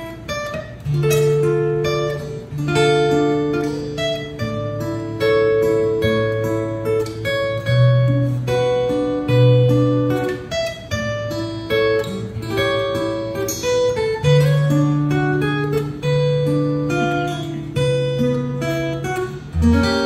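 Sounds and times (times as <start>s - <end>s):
acoustic guitar picked melody: 0.0s - 20.0s.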